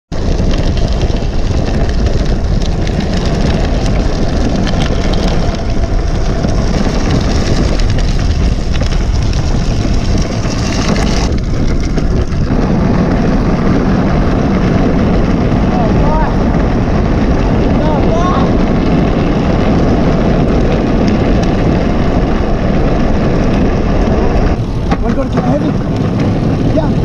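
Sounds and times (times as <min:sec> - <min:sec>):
tyre and road noise: 0:00.1 - 0:27.0
wind rushing on microphone: 0:00.1 - 0:27.0.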